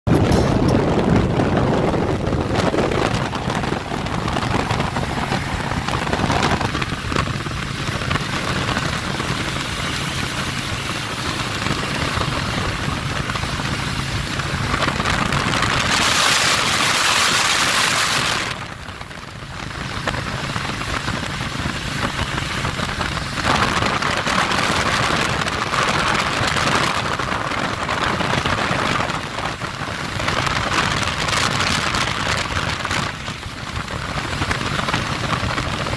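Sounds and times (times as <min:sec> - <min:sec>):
wind and road noise of motorcycle: 0:00.0 - 0:35.9.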